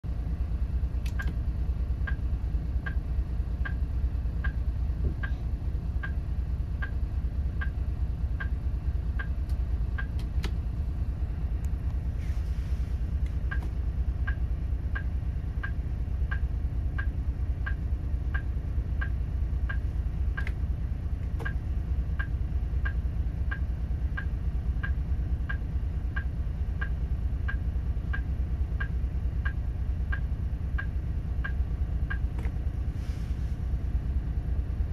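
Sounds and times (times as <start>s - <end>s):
diesel engine idling: 0.0s - 34.9s
turn signal ticking: 0.9s - 12.0s, 13.0s - 32.9s.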